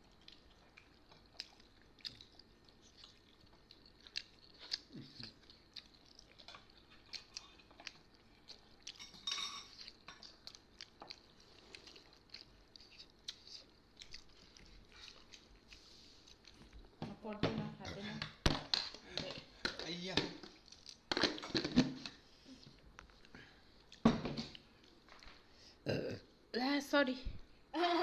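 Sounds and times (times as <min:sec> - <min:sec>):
people chewing: 0:00.0 - 0:25.8.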